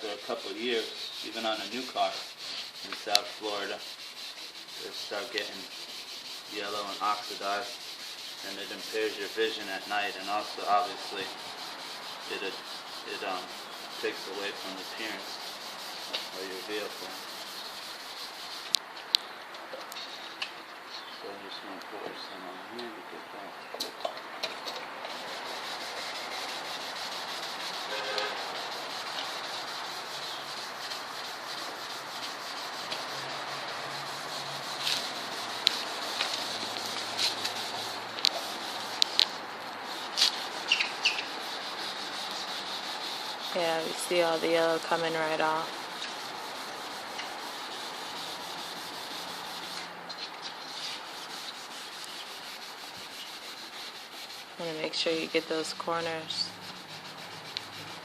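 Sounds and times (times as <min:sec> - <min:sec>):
sandpaper scrubbing plastic: 0:00.0 - 0:18.8, 0:25.1 - 0:58.0.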